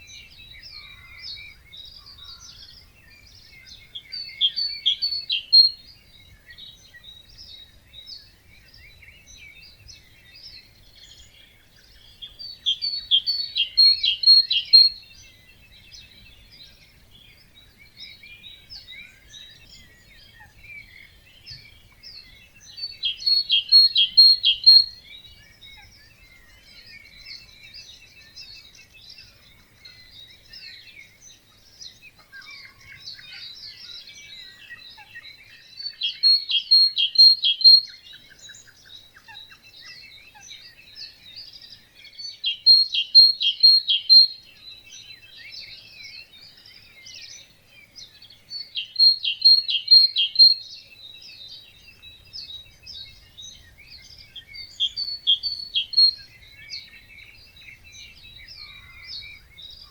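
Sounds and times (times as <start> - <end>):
bird song of repeated notes: 0.0 - 59.9
songbirds chirping and singing: 0.0 - 59.9.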